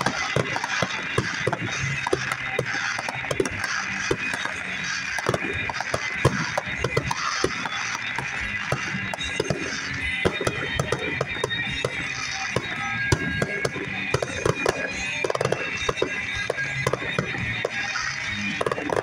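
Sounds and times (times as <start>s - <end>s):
fireworks popping and crackling: 0.0s - 19.0s
music on car radio: 0.0s - 19.0s.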